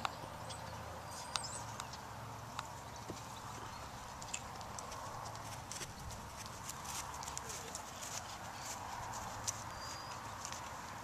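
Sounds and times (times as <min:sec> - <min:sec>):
faint horse hoofbeats on dirt: 0:01.1 - 0:11.0.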